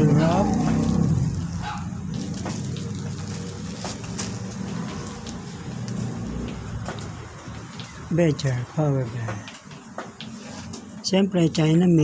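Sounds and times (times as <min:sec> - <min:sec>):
plastic and bubble wrap crinkling: 0:00.0 - 0:11.7.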